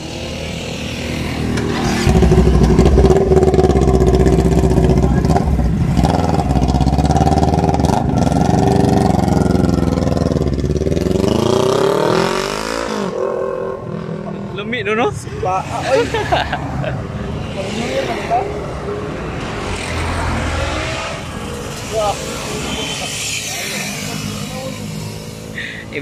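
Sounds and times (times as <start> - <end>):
motorcycle engine revving: 0.0 - 14.5, 17.2 - 26.0.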